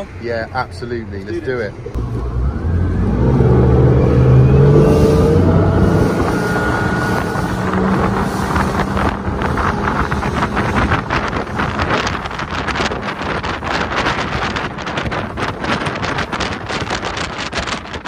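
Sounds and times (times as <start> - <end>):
outboard engine accelerating: 1.8 - 18.0
wind buffeting microphone: 1.9 - 18.0.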